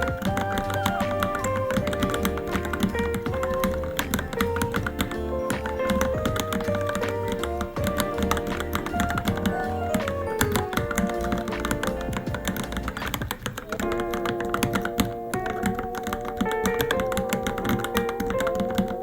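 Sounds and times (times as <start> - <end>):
background music: 0.0 - 19.0
mechanical keyboard typing: 0.0 - 19.0.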